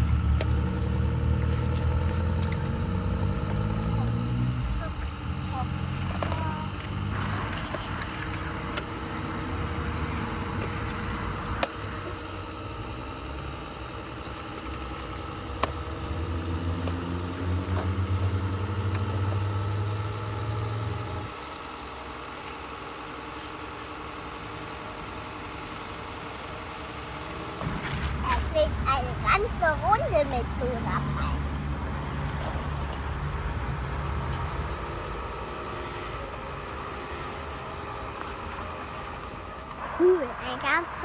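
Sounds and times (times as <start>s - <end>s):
engine idling hum: 0.0s - 41.0s.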